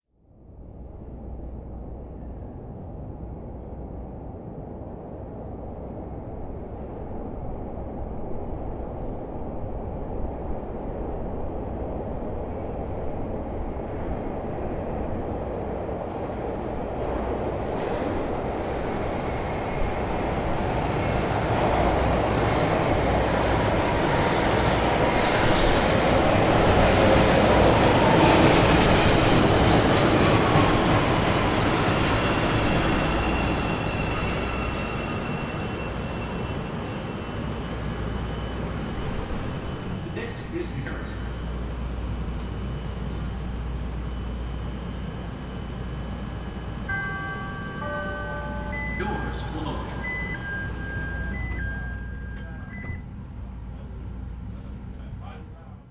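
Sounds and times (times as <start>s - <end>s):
metro train rumble: 0.2s - 55.9s.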